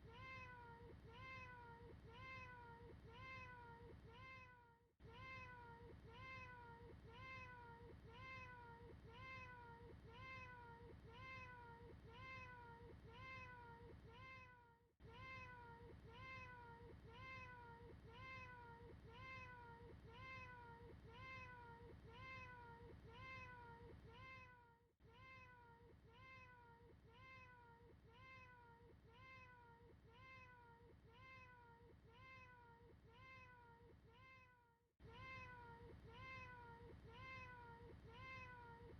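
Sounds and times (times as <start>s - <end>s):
looped cat meow: 0.0s - 38.8s.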